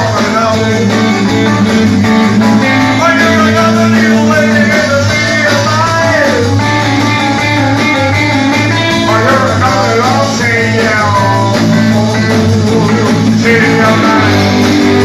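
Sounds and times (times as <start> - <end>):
bass line: 0.0 - 15.0
electric guitar bending notes: 0.0 - 15.0
rock band playing: 0.0 - 15.0.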